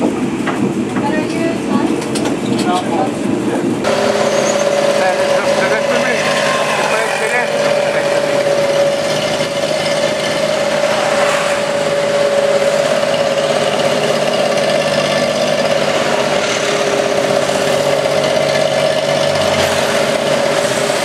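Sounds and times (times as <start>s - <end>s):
road and traffic noise: 0.0s - 21.0s
vehicle engine drone: 0.0s - 21.0s
small truck passing: 3.8s - 21.0s.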